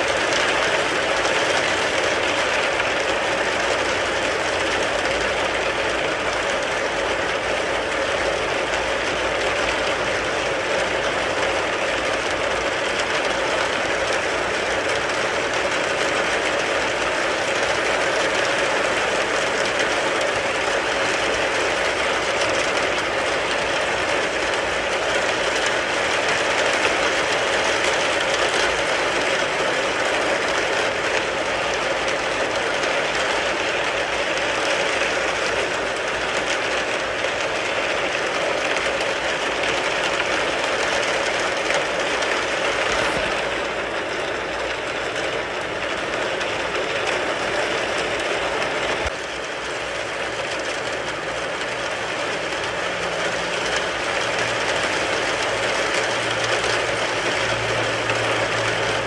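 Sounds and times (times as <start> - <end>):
rain pattering on a car: 0.0 - 42.9, 43.6 - 59.0.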